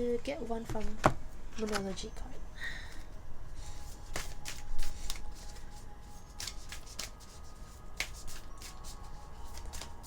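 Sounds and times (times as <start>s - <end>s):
cards being shuffled by hand: 0.7s - 2.0s, 2.9s - 10.0s.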